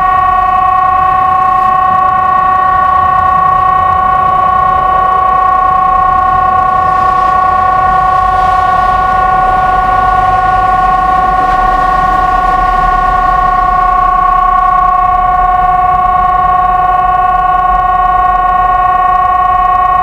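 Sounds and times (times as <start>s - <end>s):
steady warning siren tone: 0.0s - 20.0s.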